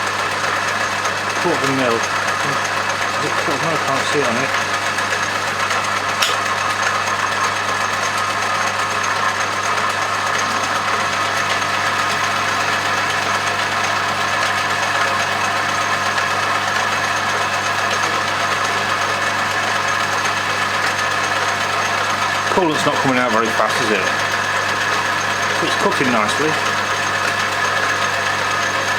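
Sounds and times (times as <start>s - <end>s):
metal lathe running: 0.0s - 28.9s.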